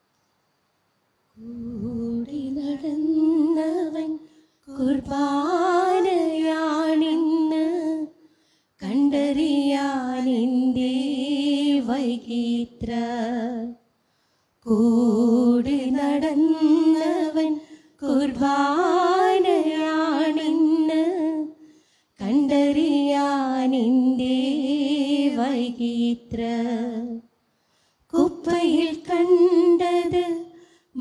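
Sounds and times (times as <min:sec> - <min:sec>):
person singing a hymn unaccompanied: 0:01.4 - 0:08.2, 0:08.8 - 0:13.8, 0:14.7 - 0:21.6, 0:22.2 - 0:27.2, 0:28.1 - 0:31.0.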